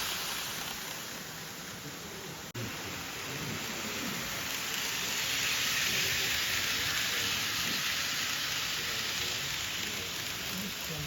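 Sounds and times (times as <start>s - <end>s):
model train rattling on track: 0.0s - 11.0s.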